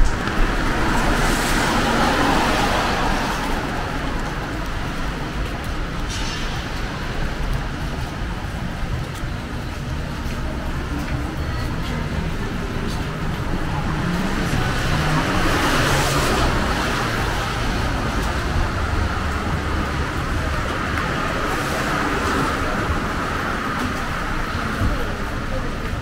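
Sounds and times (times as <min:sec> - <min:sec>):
road traffic on wet street: 0:00.0 - 0:26.0.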